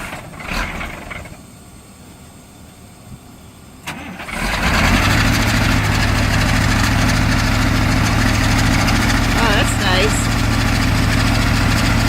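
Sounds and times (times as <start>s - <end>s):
diesel engine starting and idling: 0.0s - 12.0s.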